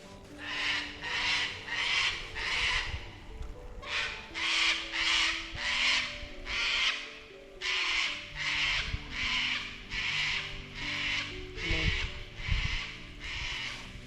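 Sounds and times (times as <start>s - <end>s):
harsh screeching bird calls: 0.4s - 14.0s.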